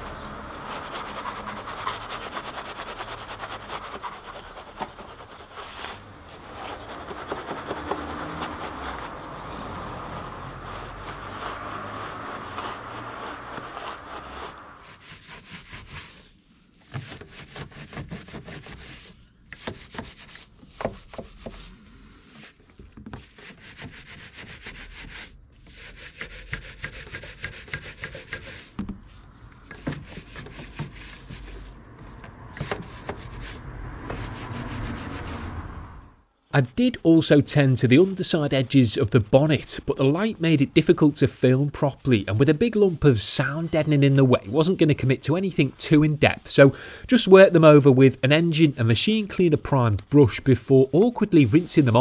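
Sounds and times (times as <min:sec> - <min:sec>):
stiff brush scrubbing wet panels: 0:00.0 - 0:35.9, 0:36.6 - 0:52.0.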